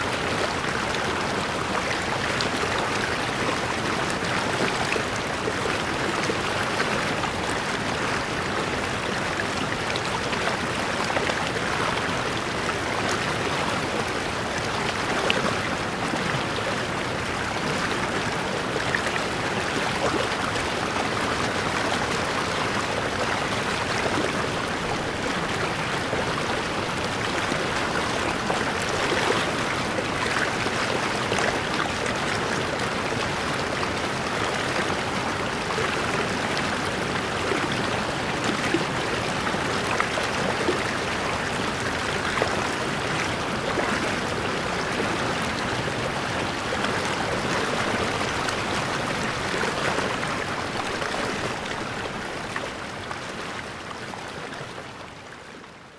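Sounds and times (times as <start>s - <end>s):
water splashes: 9.7s - 54.6s.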